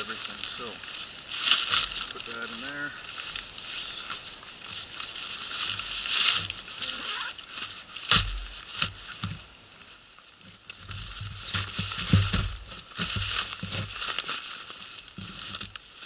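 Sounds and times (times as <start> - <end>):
nylon sacks rustling: 0.0 - 10.1, 10.8 - 16.0.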